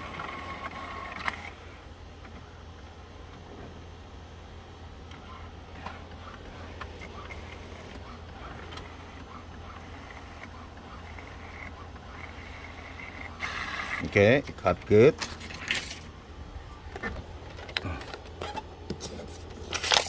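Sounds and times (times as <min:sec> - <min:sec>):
printer humming: 0:00.0 - 0:20.0.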